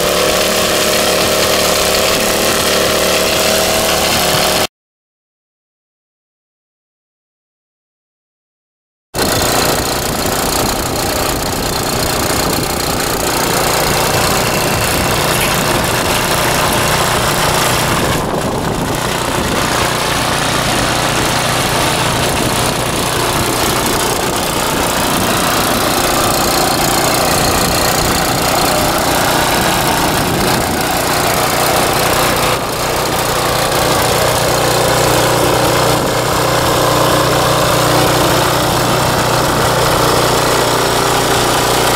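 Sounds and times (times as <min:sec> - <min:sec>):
tiller engine running under load: 0:00.0 - 0:04.7, 0:09.2 - 0:41.9
tines churning dry soil: 0:00.0 - 0:04.7, 0:09.2 - 0:41.9.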